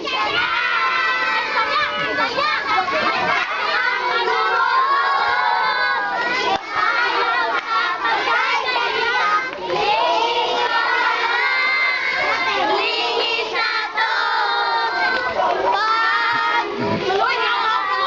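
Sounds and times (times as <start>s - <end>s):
children shouting and singing: 0.0s - 18.0s.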